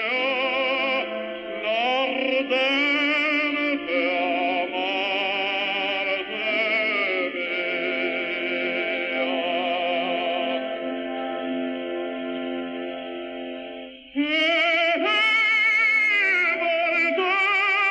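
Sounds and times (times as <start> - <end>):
person singing with vibrato: 0.0 - 13.2, 13.9 - 17.9
background music: 0.0 - 17.9.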